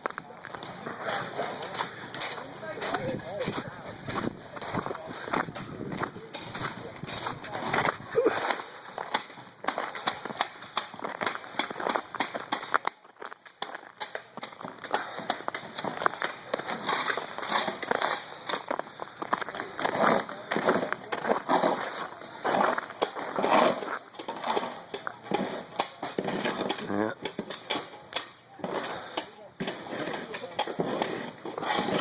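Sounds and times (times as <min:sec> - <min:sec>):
footsteps crunching on ice: 0:00.0 - 0:26.7.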